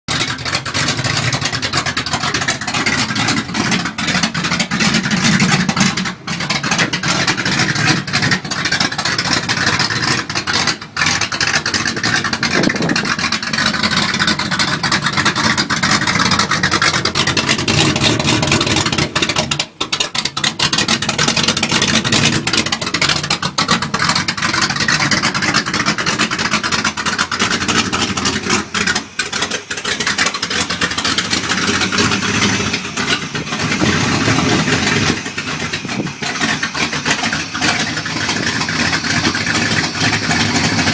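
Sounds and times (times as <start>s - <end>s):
engine revving: 0.1s - 40.9s.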